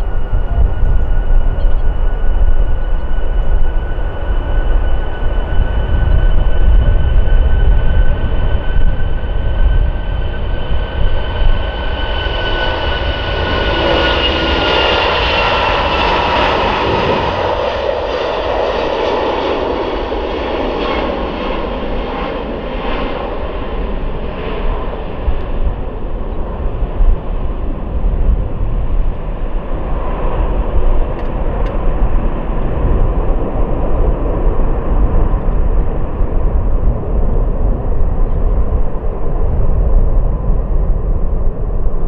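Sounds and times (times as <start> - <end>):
jet airliner taking off: 0.0 - 42.0.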